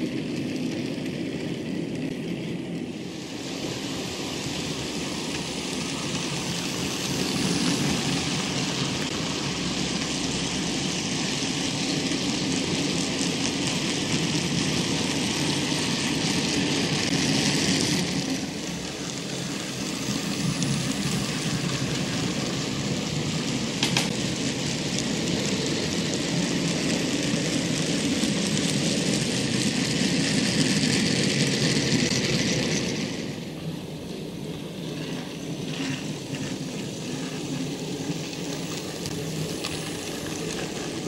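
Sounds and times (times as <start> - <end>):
model train wheels rolling on rails: 0.0 - 41.0.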